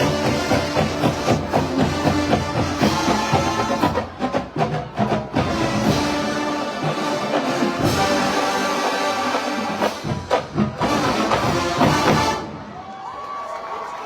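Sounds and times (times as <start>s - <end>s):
marching band playing: 0.0s - 12.8s.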